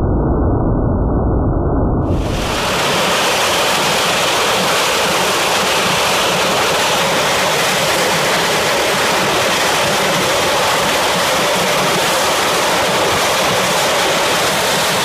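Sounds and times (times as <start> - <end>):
jet engine roaring: 1.6 - 15.0.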